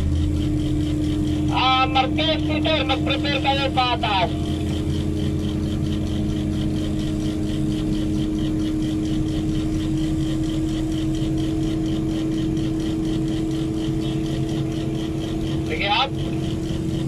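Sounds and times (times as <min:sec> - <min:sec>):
diesel engine idling: 0:00.0 - 0:17.0
fast even ticking: 0:00.0 - 0:17.0
steady whine: 0:00.0 - 0:17.0.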